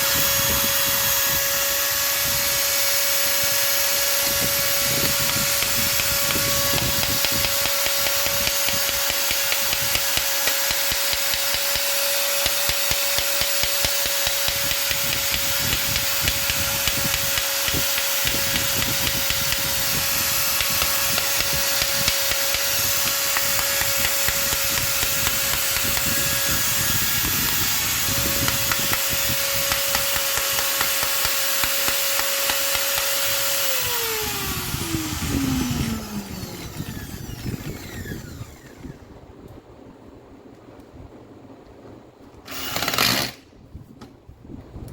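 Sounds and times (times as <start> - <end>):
angle grinder whining: 0.0 - 39.0.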